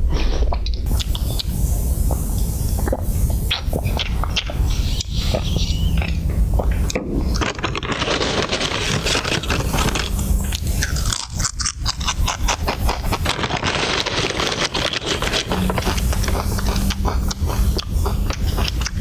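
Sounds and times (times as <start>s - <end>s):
crunchy chewing of snack: 0.0s - 19.0s.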